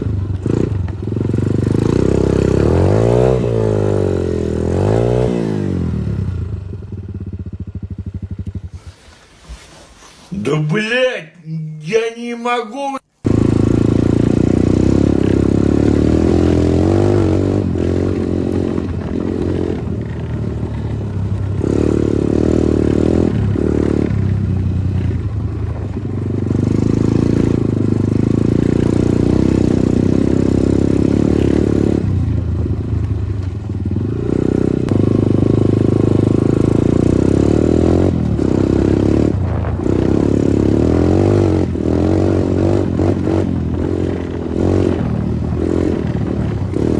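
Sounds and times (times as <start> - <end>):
dirt bike engine revving: 0.0 - 9.0, 13.2 - 46.9.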